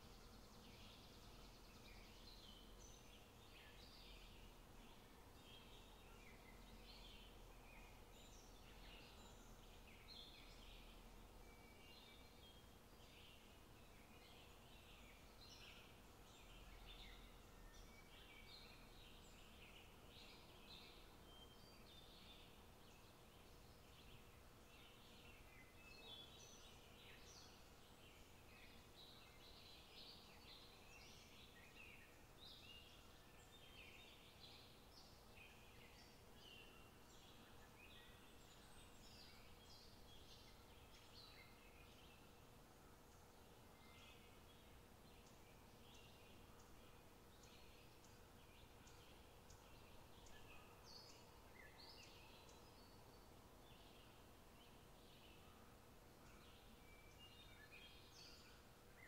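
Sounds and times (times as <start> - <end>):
faint bird chirps: 0.0 - 59.0
faint steady hum: 0.0 - 59.0.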